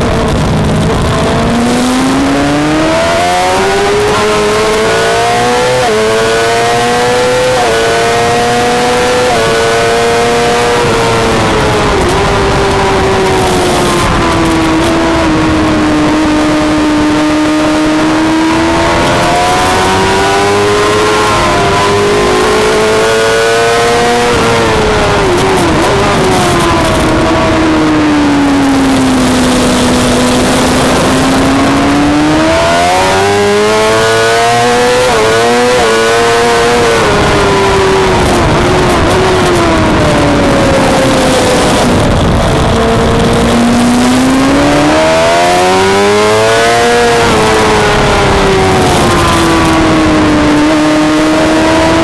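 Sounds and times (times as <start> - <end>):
motorcycle engine at high revs: 0.0 - 52.0
wind noise: 0.0 - 52.0.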